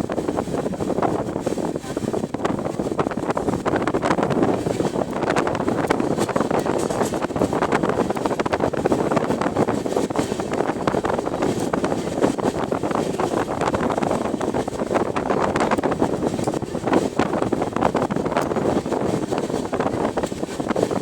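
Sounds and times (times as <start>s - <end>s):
train rattling: 0.0s - 21.0s
wind buffeting microphone: 0.0s - 21.0s.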